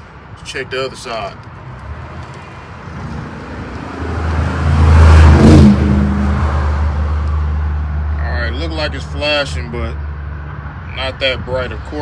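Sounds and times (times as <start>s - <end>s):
vehicle passing by: 1.6s - 11.9s.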